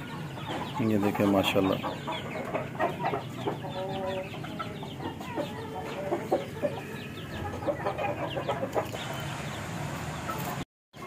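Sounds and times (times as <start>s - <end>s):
chicken clucking: 0.0s - 10.6s
chicks peeping: 0.0s - 11.0s.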